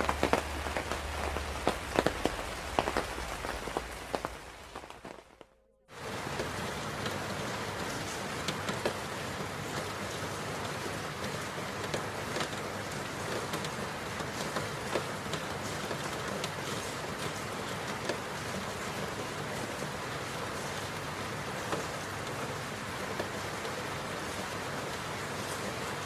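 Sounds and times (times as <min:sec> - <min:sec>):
dense rain hiss: 0:00.0 - 0:26.0
raindrops ticking on a surface: 0:00.0 - 0:26.0.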